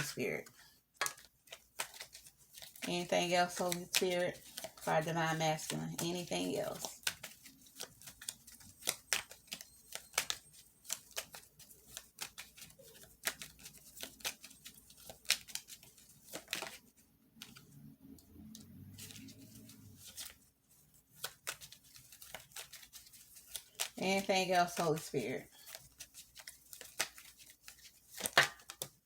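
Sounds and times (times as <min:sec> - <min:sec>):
cards being shuffled: 0:00.0 - 0:17.8, 0:18.5 - 0:20.4, 0:21.0 - 0:29.0.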